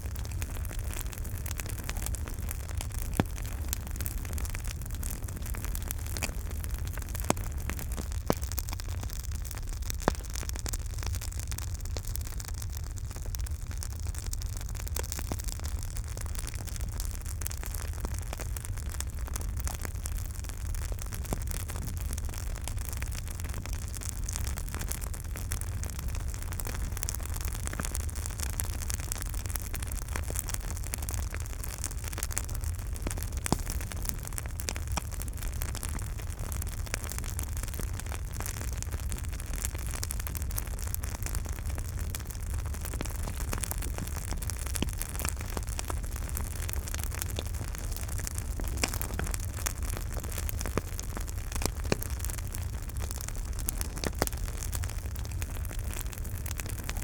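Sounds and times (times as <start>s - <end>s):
campfire burning: 0.0s - 57.0s
fire crackles and pops: 0.0s - 57.0s.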